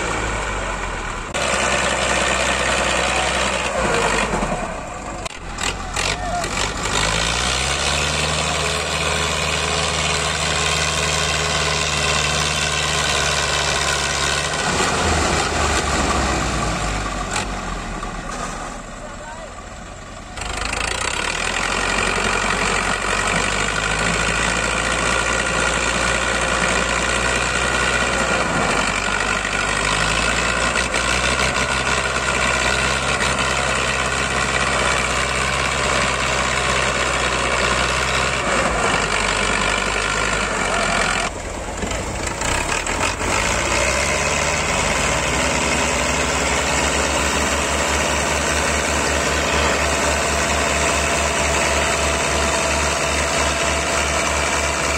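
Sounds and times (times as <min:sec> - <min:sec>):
tractor diesel engines running hard: 0:00.0 - 0:54.9.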